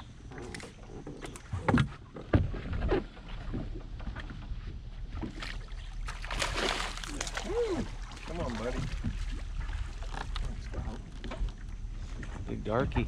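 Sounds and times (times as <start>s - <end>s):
water and wind rumble on hull: 0.0s - 13.0s.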